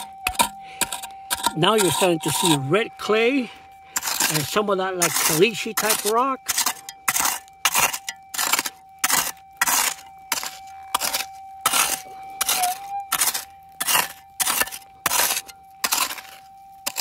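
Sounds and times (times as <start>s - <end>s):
metal detector steady high tone: 0.0s - 17.0s.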